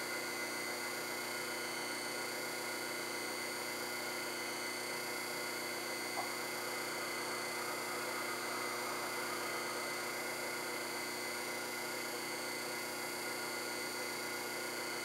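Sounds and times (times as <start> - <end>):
lathe motor hum and whine: 0.0 - 15.0.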